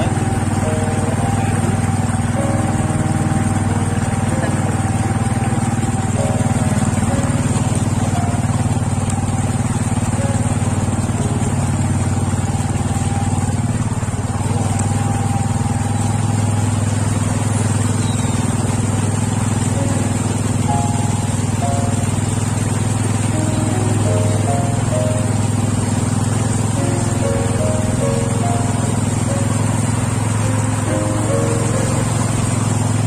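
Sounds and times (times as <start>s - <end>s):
scooter engine running: 0.0s - 33.0s
water swishing against wheel: 0.0s - 33.0s.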